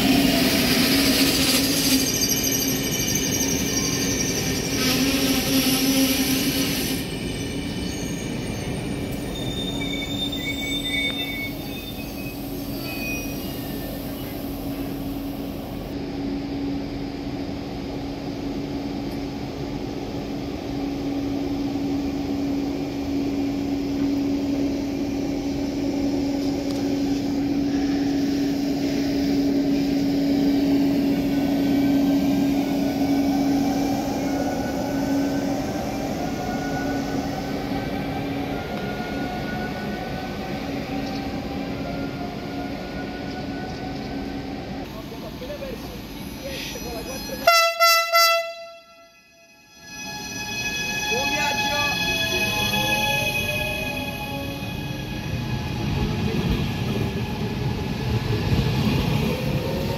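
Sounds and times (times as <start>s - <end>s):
electric train running past: 0.0s - 59.9s.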